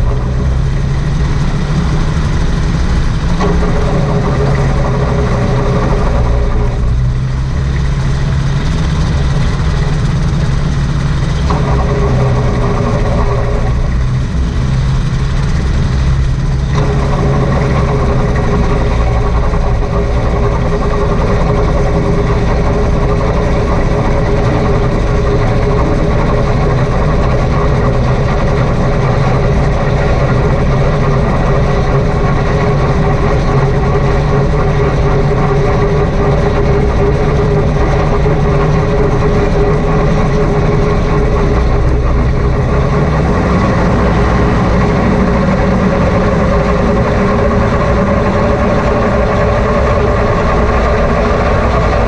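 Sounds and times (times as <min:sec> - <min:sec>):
two-stroke engine running: 0:00.0 - 0:52.0.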